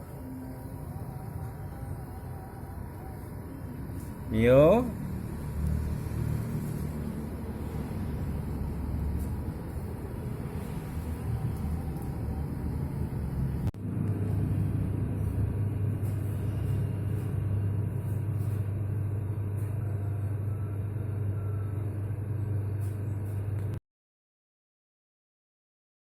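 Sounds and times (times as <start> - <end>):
steady low rumble: 0.0 - 23.6.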